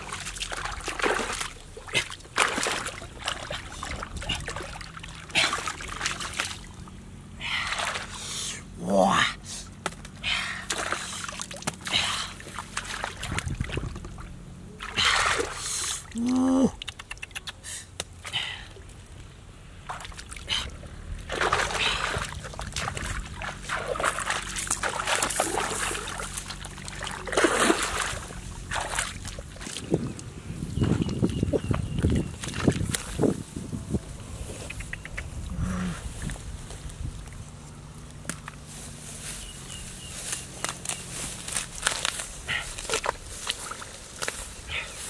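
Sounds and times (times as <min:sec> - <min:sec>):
splashing in muddy water: 0:00.0 - 0:09.0, 0:09.6 - 0:19.0, 0:19.8 - 0:33.6, 0:38.2 - 0:45.0.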